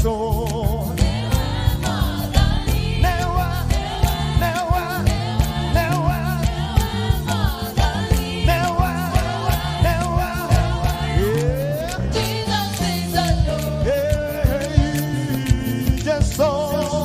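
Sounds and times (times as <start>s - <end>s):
band with drums and bass: 0.0s - 17.0s
person singing with vibrato: 0.0s - 17.0s.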